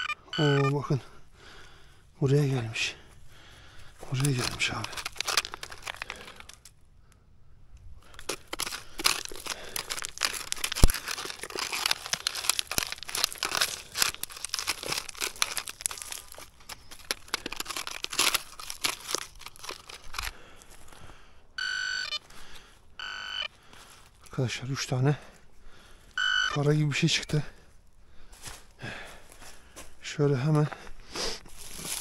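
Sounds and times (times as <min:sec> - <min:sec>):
digging through dry earth: 0:00.4 - 0:06.8, 0:07.8 - 0:21.5, 0:22.2 - 0:32.0.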